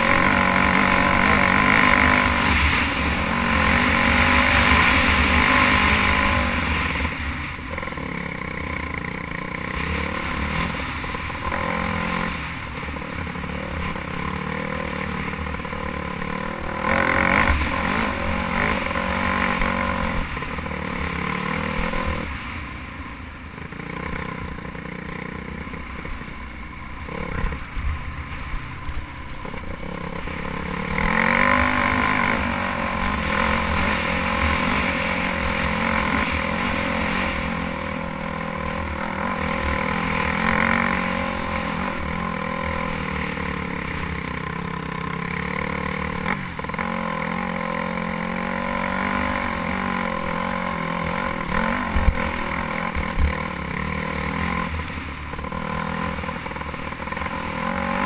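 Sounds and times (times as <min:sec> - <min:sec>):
dirt bike engine revving: 0:00.0 - 0:22.6, 0:29.4 - 0:58.0.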